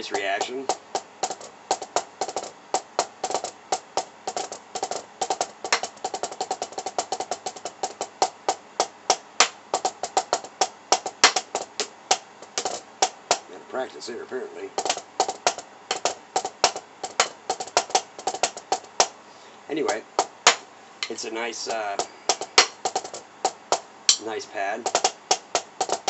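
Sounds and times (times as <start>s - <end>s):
drumsticks tapping practice pad: 0.0s - 13.5s, 14.7s - 19.2s, 19.8s - 26.0s.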